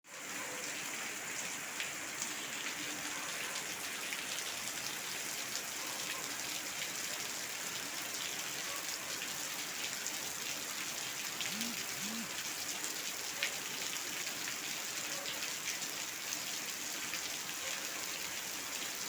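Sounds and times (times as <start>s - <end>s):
steady rain hiss: 0.1s - 19.0s.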